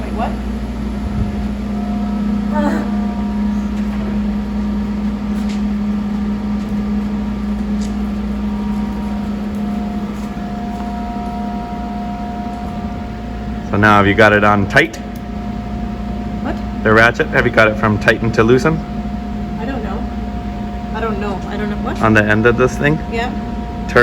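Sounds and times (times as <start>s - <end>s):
faint steady tones: 0.0s - 24.0s
steady mechanical hum: 0.0s - 24.0s.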